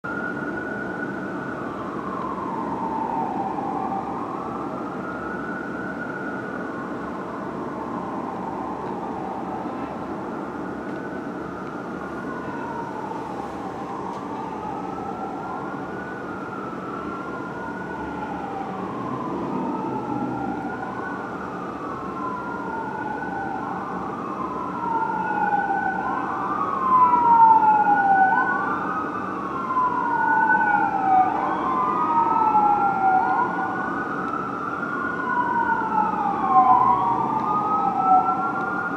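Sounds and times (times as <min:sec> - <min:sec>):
city traffic hum: 0:00.0 - 0:38.9
fire engine siren wailing: 0:00.0 - 0:38.9.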